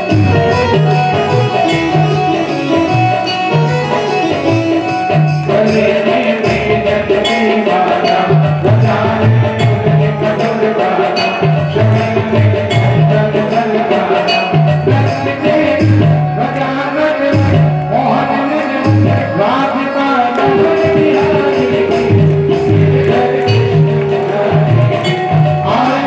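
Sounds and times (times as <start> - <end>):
instrumental music with bass line: 0.0 - 26.0
percussion: 0.0 - 26.0.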